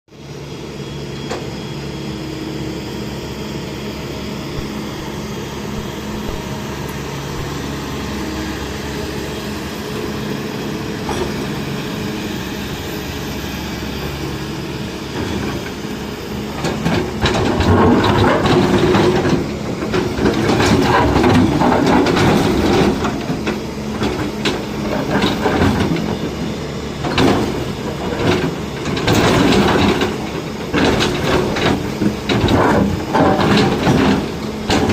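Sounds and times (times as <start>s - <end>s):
excavator diesel engine running: 0.2s - 34.9s.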